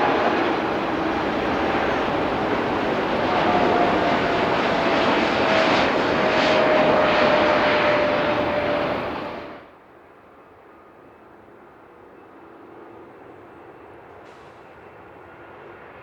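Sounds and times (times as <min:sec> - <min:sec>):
jet airliner engine roar: 0:00.0 - 0:16.0
jet engine whine: 0:00.0 - 0:16.0.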